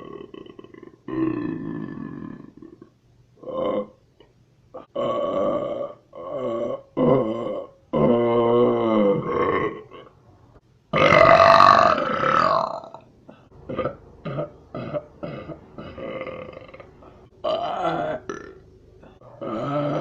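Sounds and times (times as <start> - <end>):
person burping: 0.0 - 4.0, 4.8 - 10.2, 10.9 - 20.0.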